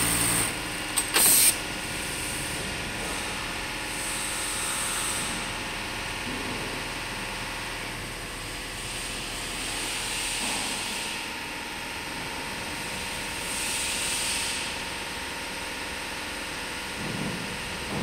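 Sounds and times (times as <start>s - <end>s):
constant machine hiss: 0.0s - 18.0s.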